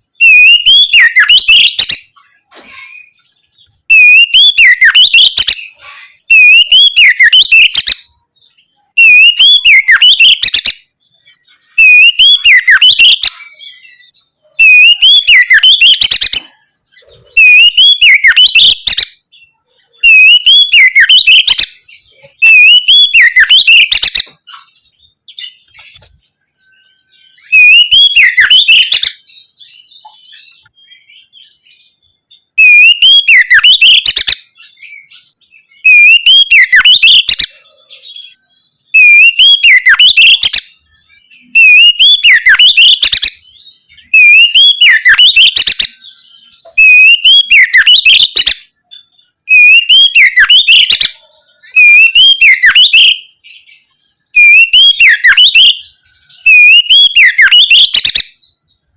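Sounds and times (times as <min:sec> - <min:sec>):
bird singing whistled phrases: 0:00.0 - 0:58.8
soft bird twittering: 0:00.0 - 0:58.9.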